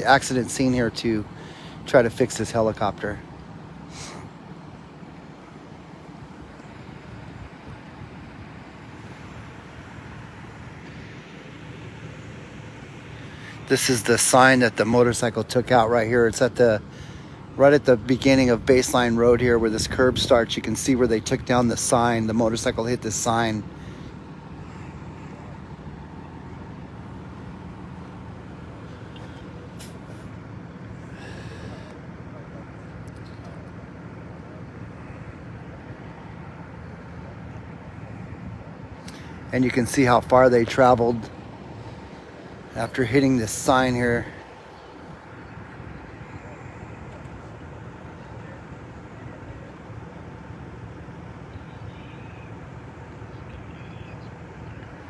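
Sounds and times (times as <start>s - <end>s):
vehicle engines rumbling: 0.0s - 55.0s.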